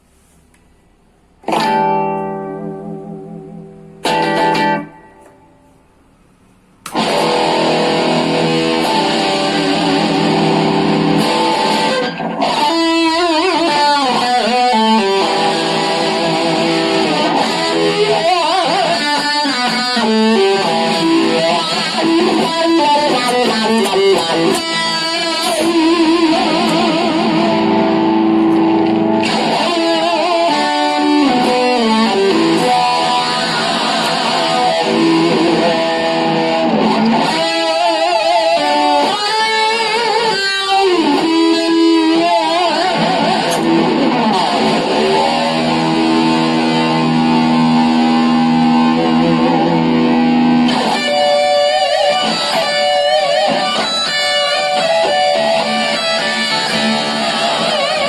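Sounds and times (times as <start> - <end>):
electric guitar lead line: 1.4 - 5.8, 6.8 - 58.0.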